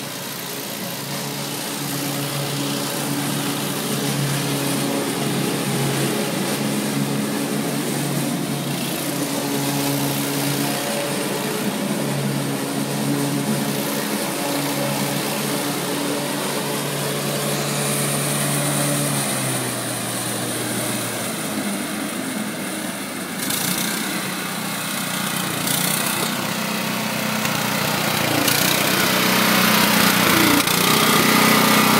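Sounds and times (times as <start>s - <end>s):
lawn mower engine cutting grass: 0.0s - 31.9s.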